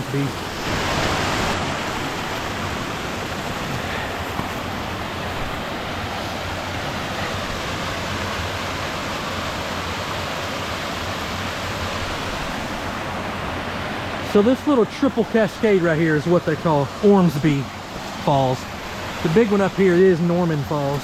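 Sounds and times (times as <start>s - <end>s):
water rushing over rock ledges: 0.0s - 21.0s.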